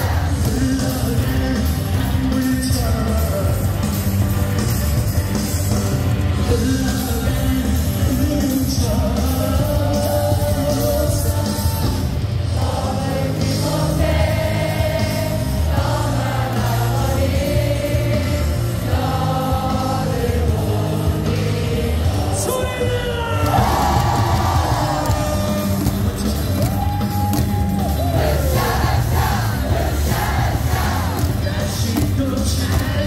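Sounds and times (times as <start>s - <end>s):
crowd singing in unison: 0.0s - 4.2s, 6.3s - 26.4s, 27.9s - 33.0s
cheer song over stadium speakers: 0.0s - 33.0s.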